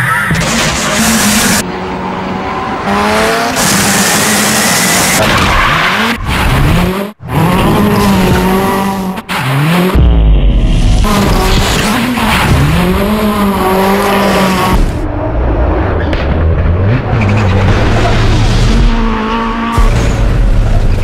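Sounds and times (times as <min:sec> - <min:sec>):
rally car engine revving: 0:00.3 - 0:21.0.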